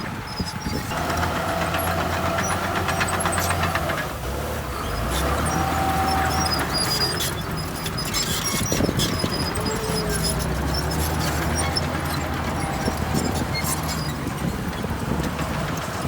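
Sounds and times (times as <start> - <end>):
diesel machine engine droning: 0.0 - 16.0.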